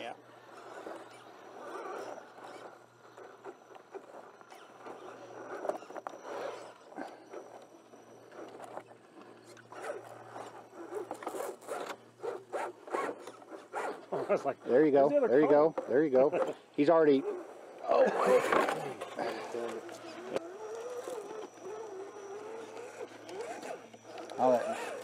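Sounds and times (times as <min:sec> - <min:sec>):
electric motor whirring: 0:00.0 - 0:25.0
tires scraping on rock: 0:00.0 - 0:25.0.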